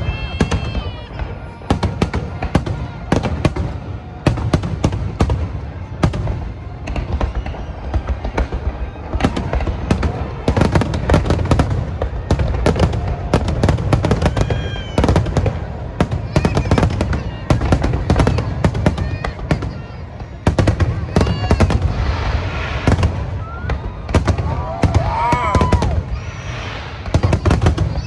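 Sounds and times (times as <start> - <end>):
fireworks bursting: 0.0 - 28.0
fireworks crackles: 0.0 - 28.0.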